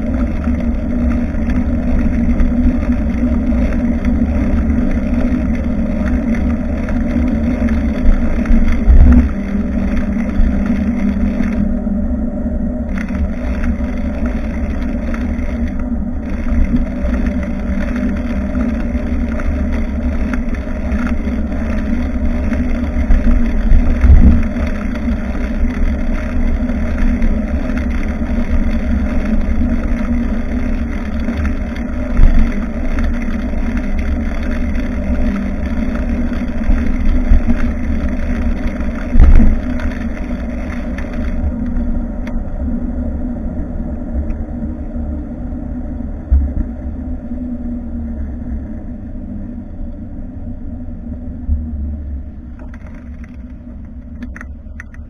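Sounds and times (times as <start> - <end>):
bicycle road noise: 0.0 - 55.0
steady low hum: 0.0 - 55.0
wind on microphone: 0.0 - 55.0.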